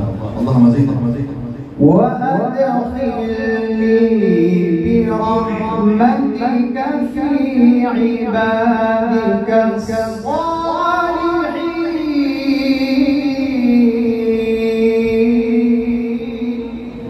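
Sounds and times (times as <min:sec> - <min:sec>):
man chanting recitation: 0:00.0 - 0:17.0.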